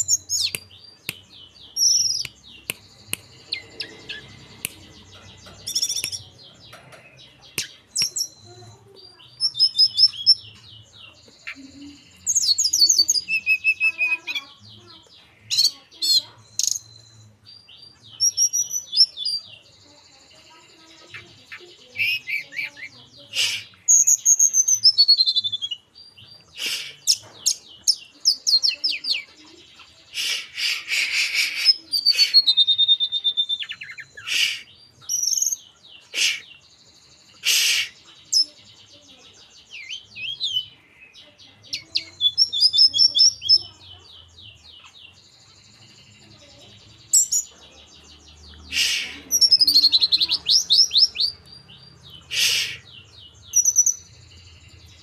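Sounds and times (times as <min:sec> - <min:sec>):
songbird singing trills: 0:00.0 - 0:55.0.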